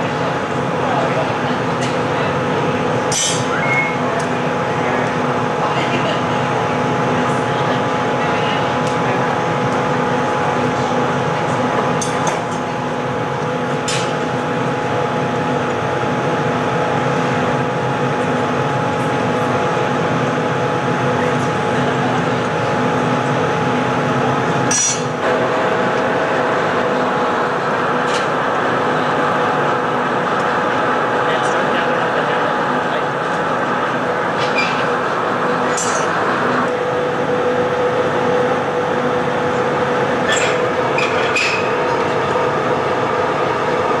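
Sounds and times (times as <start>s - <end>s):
furnace burners humming: 0.0s - 44.0s.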